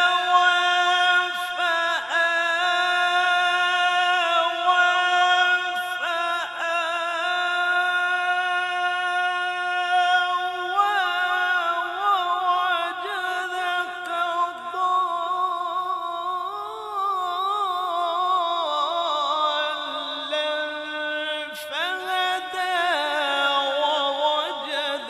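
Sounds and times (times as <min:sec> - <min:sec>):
man reciting in melodic chant: 0:00.0 - 0:25.0.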